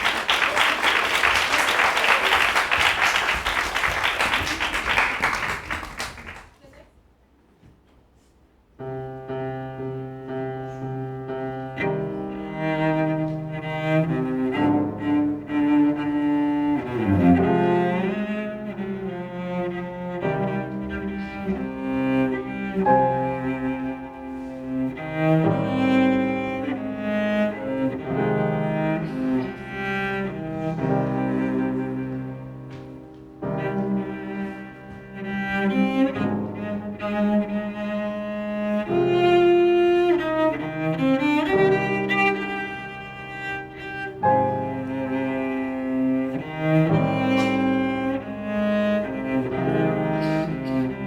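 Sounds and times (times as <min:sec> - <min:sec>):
bowed string music with cello: 0:08.8 - 0:51.0.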